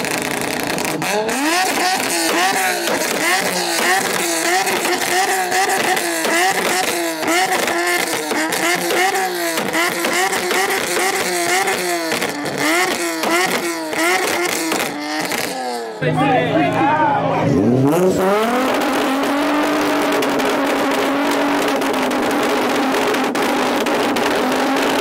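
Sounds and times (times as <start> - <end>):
car engines revving hard: 0.0 - 25.0.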